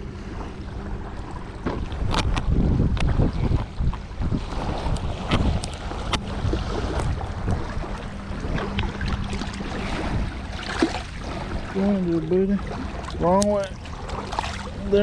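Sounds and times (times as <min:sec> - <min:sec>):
wind buffeting microphone: 0:00.0 - 0:15.0
waves lapping against rocks: 0:01.6 - 0:15.0.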